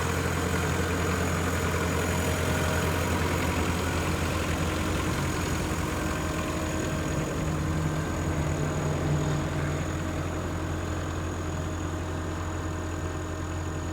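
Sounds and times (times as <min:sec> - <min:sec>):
diesel engine idling: 0:00.0 - 0:13.9.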